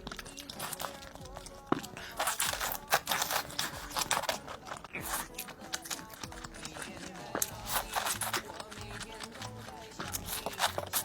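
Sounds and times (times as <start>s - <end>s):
crisp food crunching: 0.0s - 11.0s.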